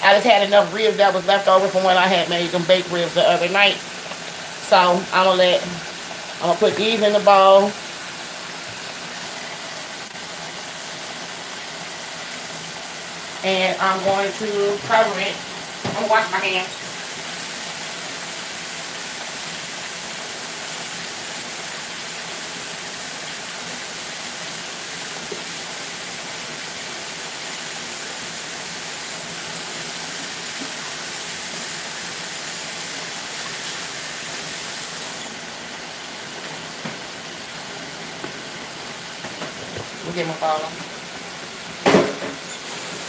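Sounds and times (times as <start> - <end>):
ribs frying in hot grease: 0.0 - 43.0
tap water running: 0.0 - 43.0.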